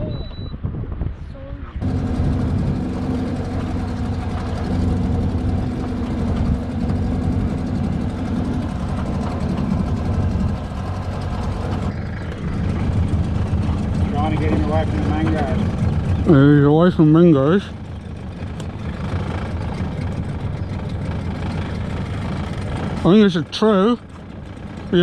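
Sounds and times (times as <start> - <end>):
boat motor running: 1.8 - 25.0.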